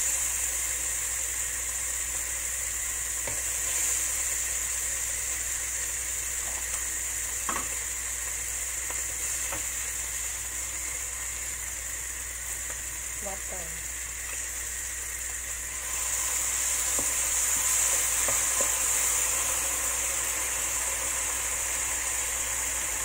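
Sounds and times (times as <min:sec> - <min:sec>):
eggplant sizzling in oil: 0:00.0 - 0:23.0.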